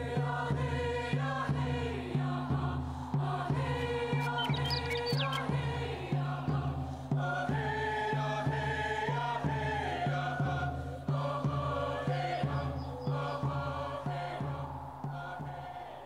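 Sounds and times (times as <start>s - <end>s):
steady drum beat: 0.0s - 16.0s
voices chanting: 0.0s - 16.0s.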